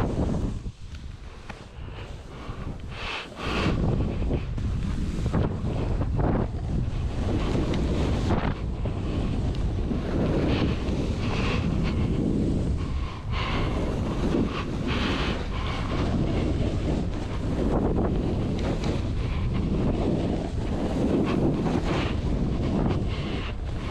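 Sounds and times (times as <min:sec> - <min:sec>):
board scraping through snow: 0:00.0 - 0:23.9
wind buffeting microphone: 0:00.0 - 0:23.9.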